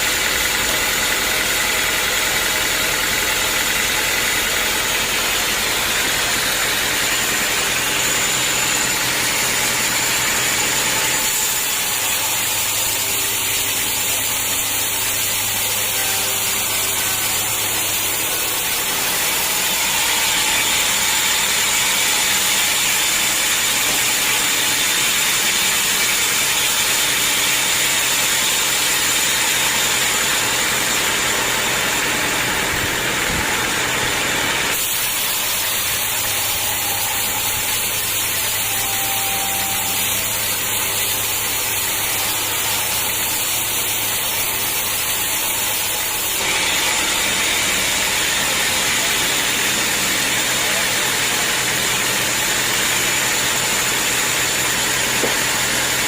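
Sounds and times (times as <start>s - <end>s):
saw hissing through logs: 0.0s - 56.0s
sawmill engine drone: 0.0s - 56.0s.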